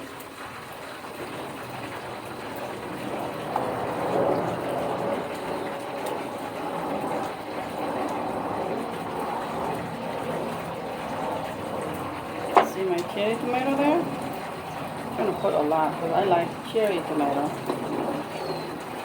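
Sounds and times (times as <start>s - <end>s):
chicken wings frying in oil: 0.0s - 19.0s.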